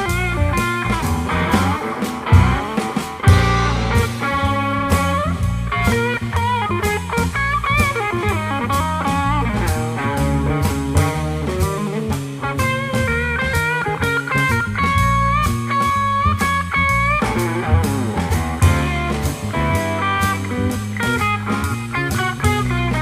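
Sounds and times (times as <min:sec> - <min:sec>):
drum kit: 0:00.0 - 0:23.0
electric bass: 0:00.0 - 0:23.0
electric guitar solo: 0:00.0 - 0:23.0.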